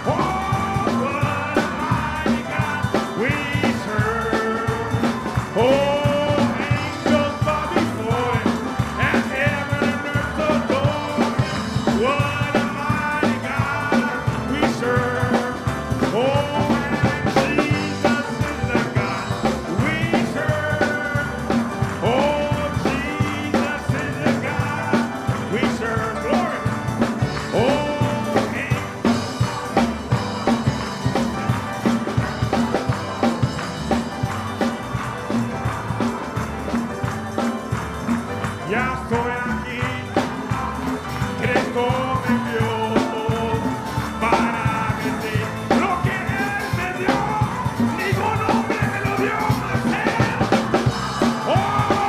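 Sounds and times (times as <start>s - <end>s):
band playing praise music: 0.0s - 52.0s.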